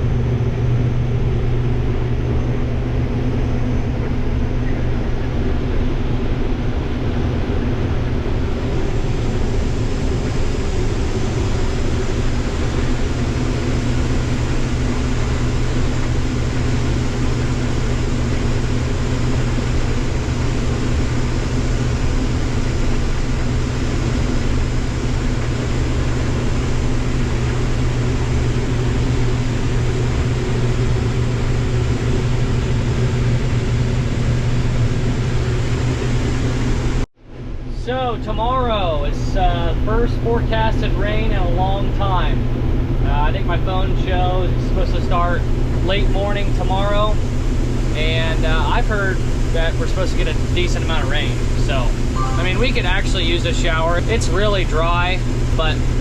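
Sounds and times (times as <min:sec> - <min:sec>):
diesel harvester running: 0:00.0 - 0:37.0, 0:38.7 - 0:56.0.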